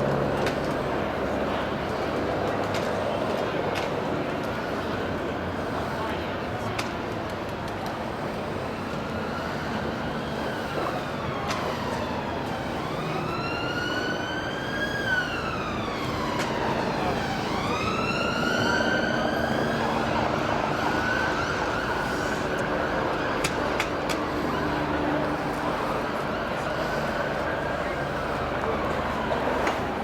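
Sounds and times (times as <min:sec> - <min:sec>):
emergency vehicle siren wailing: 0:00.0 - 0:30.0.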